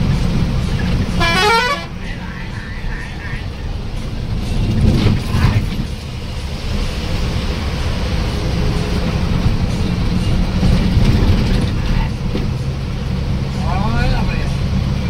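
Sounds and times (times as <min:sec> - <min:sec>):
bus engine running: 0:00.0 - 0:15.0
road noise: 0:00.0 - 0:15.0.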